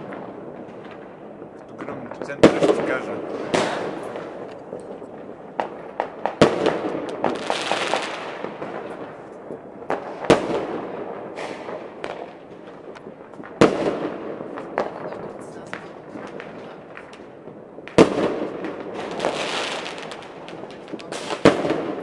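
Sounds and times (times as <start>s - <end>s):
crackling hiss: 0.0s - 22.0s
distant fireworks booming: 0.0s - 22.0s
firecracker pops: 0.0s - 22.0s.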